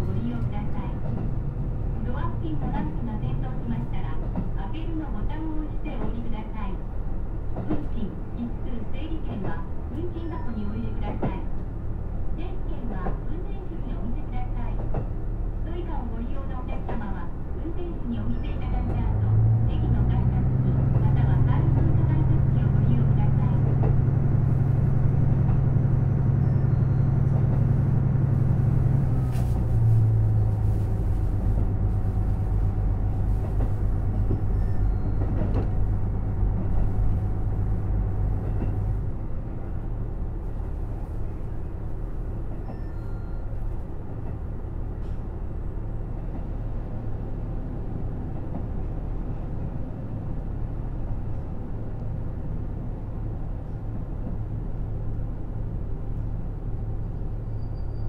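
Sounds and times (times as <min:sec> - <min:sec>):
wheels rumbling on rails: 0:00.0 - 0:58.0.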